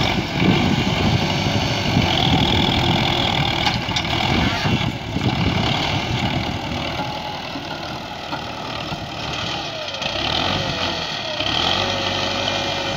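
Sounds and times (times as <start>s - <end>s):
front loader digging into dirt: 0.0s - 12.9s
tractor diesel engine running: 0.0s - 12.9s.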